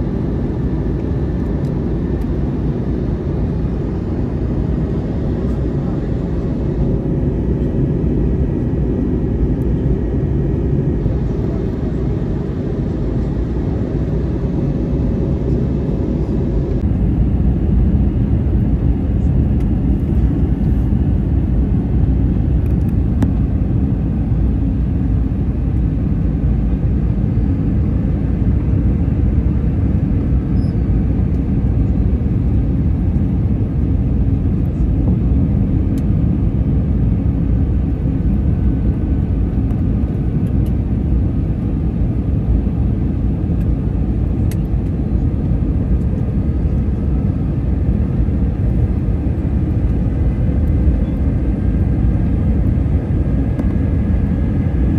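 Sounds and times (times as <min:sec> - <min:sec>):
jet airliner cabin roar: 0:00.0 - 0:54.9.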